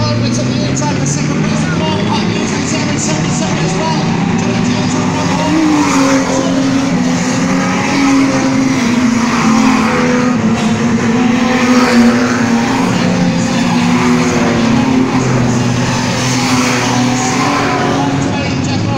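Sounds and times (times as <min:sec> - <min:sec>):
race car engines: 0:00.0 - 0:18.9.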